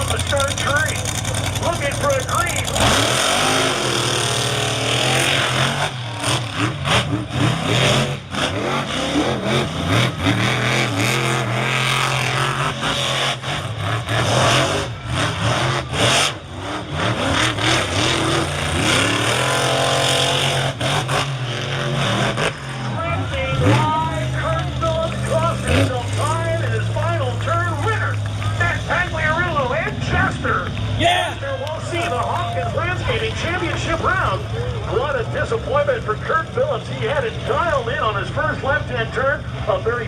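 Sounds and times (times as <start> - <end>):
monster truck engines revving: 0.0 - 40.0.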